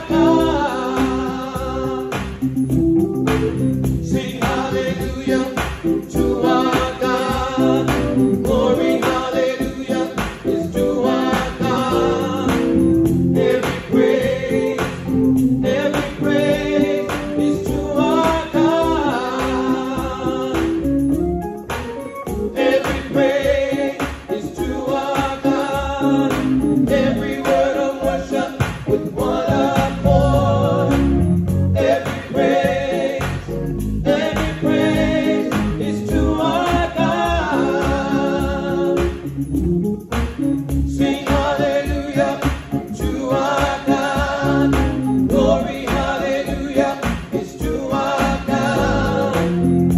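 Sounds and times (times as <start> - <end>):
male trio singing in harmony: 0.0 - 2.5, 4.0 - 20.9, 22.5 - 39.2, 40.9 - 49.9
keyboard accompaniment: 0.0 - 49.9.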